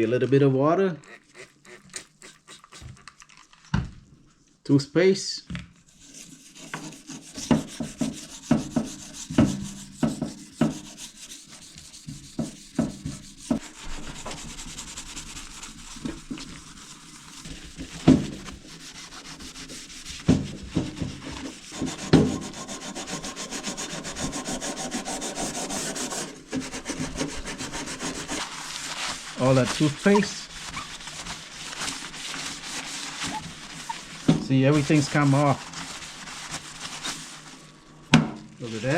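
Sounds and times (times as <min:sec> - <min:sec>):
toothbrush scrubbing oven door: 0:06.2 - 0:37.7.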